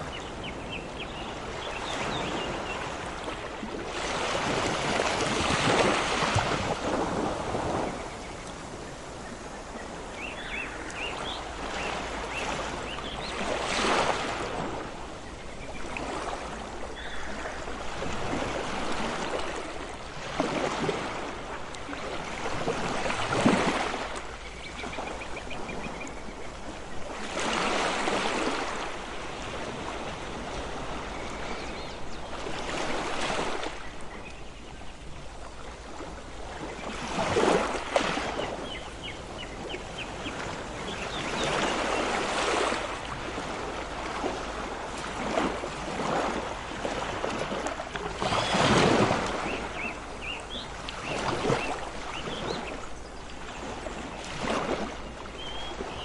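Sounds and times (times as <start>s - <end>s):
ocean waves breaking: 0.0s - 26.1s, 26.7s - 34.0s, 35.2s - 56.0s.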